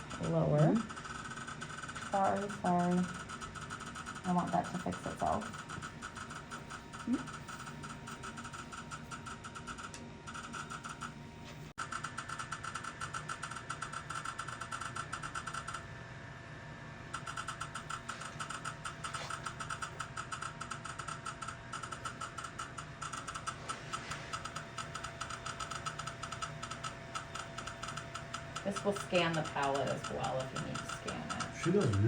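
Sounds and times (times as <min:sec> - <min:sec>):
dental scanner pulsing buzz: 0:00.0 - 0:16.0, 0:16.8 - 0:32.0.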